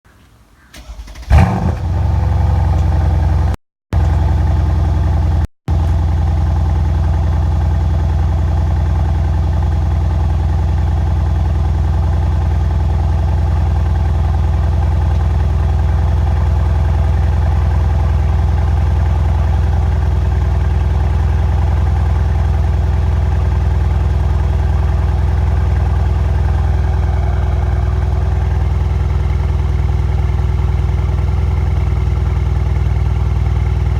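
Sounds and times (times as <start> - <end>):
car engine starting and idling: 0.7 - 33.9.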